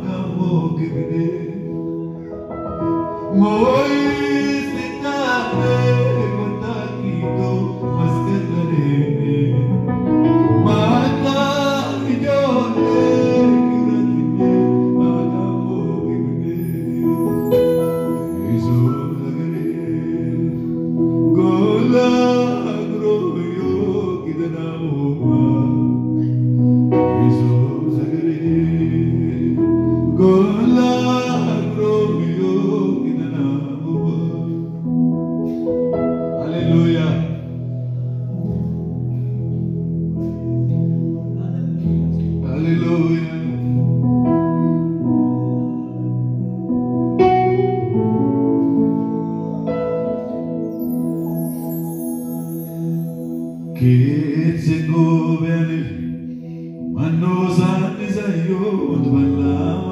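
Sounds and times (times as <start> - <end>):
man singing into microphone: 0.0 - 40.3, 41.4 - 46.8, 48.6 - 59.9
electronic keyboard chords: 0.0 - 59.9.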